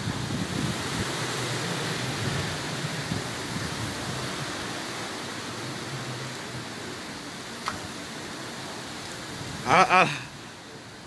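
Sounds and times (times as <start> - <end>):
gusting wind rumble: 0.0 - 9.7
heavy rain hissing: 0.0 - 11.0.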